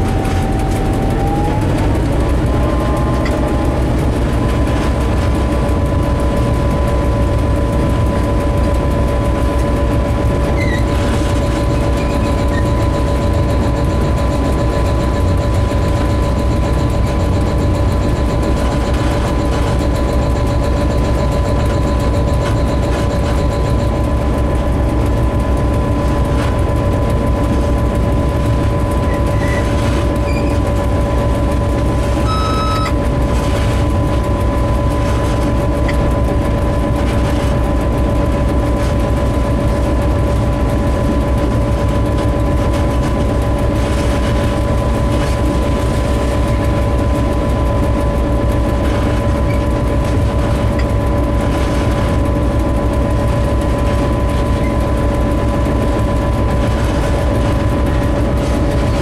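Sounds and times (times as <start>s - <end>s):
locomotive engine rumble: 0.0s - 59.0s
steady whine: 0.0s - 59.0s.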